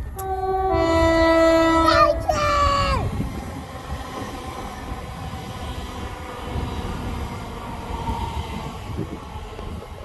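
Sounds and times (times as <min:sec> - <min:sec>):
electric train rumbling past: 0:00.0 - 0:10.0.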